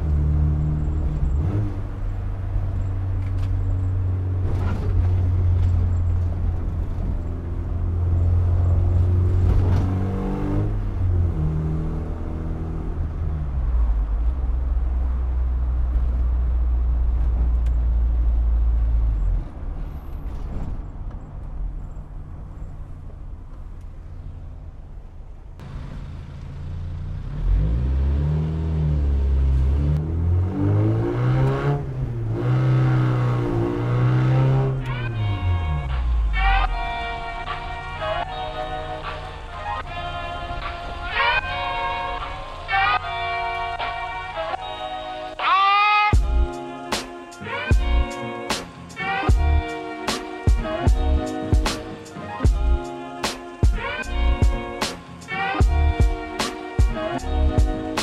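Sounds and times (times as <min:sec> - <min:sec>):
car engine droning while driving: 0:00.0 - 0:49.7.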